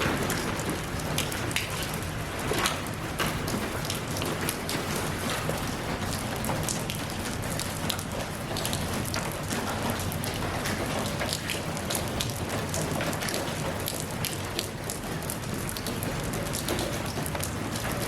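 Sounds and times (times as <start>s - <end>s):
rain drops pattering: 0.0s - 18.0s.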